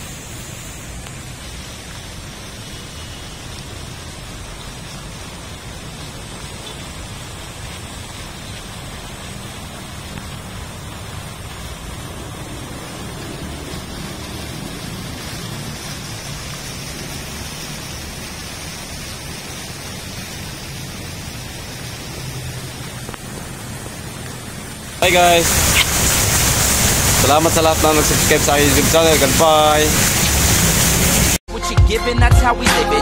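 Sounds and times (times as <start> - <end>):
fountain water splashing: 0.0 - 31.4.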